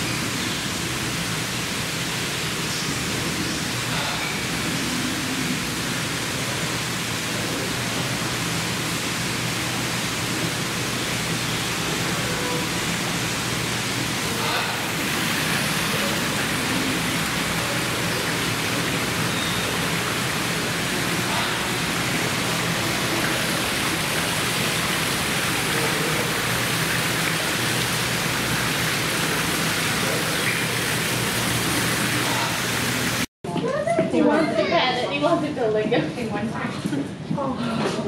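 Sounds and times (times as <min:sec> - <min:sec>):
falling water rushing: 0:00.0 - 0:33.3.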